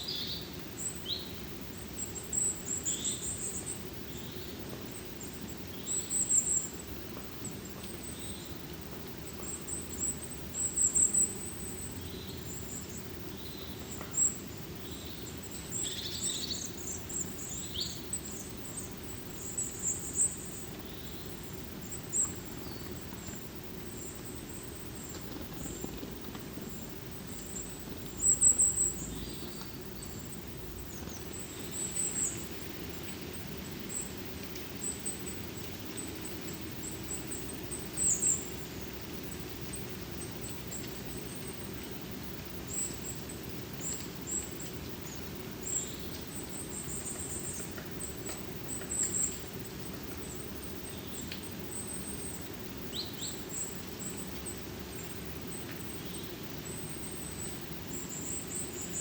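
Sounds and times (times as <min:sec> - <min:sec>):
low forest hiss: 0:00.0 - 0:59.0
small birds high-pitched calls: 0:00.0 - 0:59.0.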